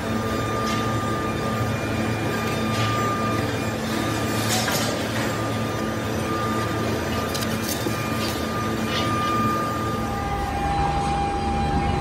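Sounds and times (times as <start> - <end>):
machinery whining: 0.0 - 12.0.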